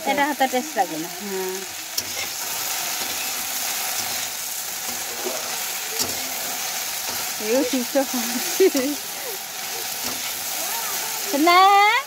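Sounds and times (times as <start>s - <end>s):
spatula stirring: 0.0s - 11.6s
okra sizzling in a frying pan: 0.0s - 12.0s.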